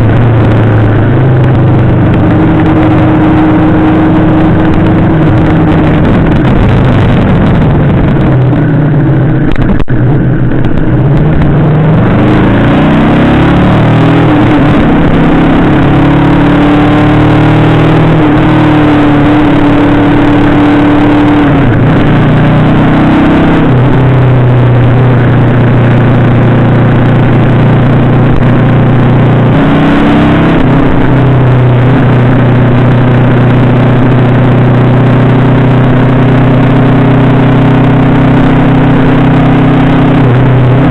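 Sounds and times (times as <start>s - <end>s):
motorcycle engine accelerating: 0.0s - 40.9s
wind noise on microphone: 0.0s - 40.9s.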